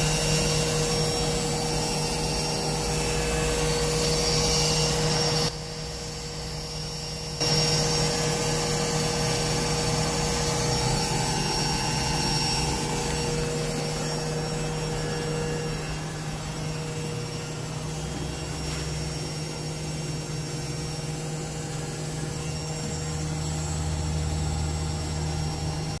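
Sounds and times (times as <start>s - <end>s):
washing machine motor spinning: 0.0s - 26.0s.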